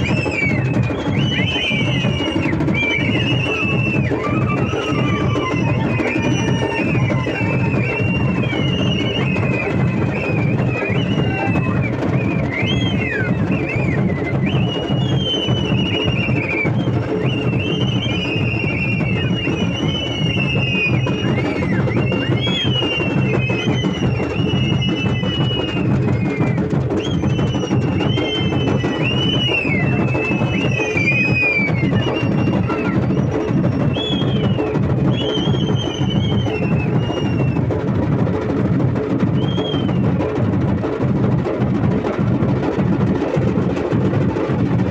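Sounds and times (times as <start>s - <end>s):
drums beating fast rhythm: 0.0s - 44.9s.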